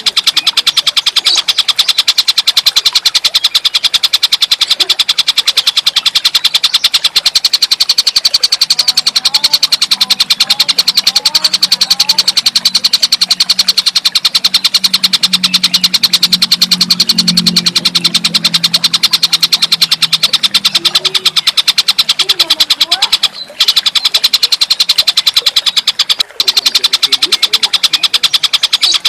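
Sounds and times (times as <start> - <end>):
bird fast high chatter: 0.0 - 29.0.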